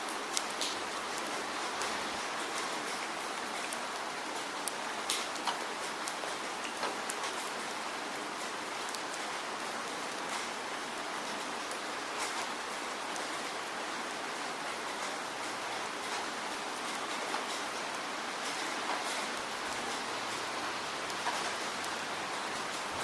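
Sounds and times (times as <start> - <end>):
heavy rain falling: 0.0 - 23.0
raindrops ticking on a surface: 0.0 - 23.0.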